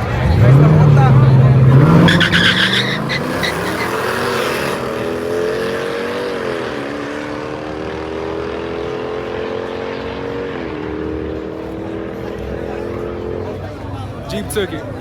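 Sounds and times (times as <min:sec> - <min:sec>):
drag racing cars accelerating: 0:00.0 - 0:14.2.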